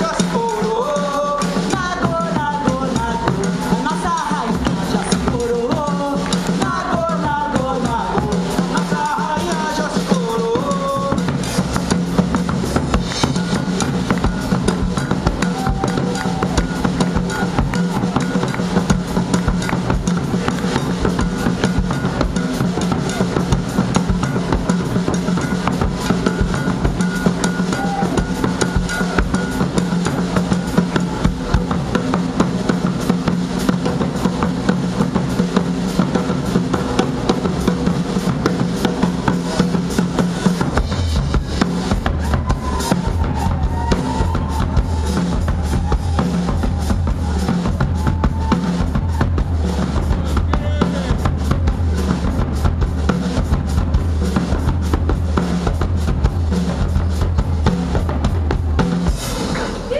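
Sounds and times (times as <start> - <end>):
bass line: 0.0 - 59.9
drum kit: 0.0 - 59.9
large drum: 0.0 - 59.9.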